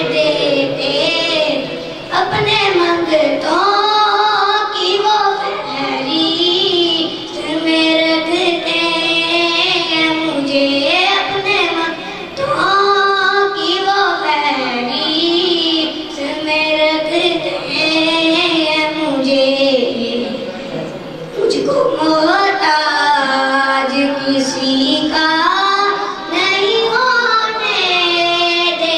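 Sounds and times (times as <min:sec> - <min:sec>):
boy singing into a microphone: 0:00.0 - 0:20.5, 0:21.3 - 0:28.9.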